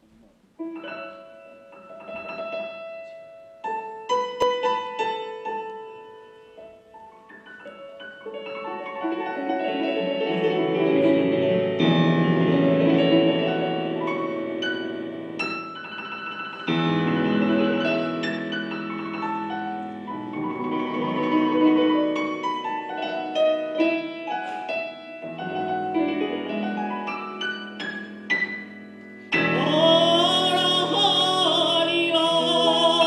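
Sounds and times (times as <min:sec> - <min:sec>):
piano playing: 0:00.6 - 0:33.0.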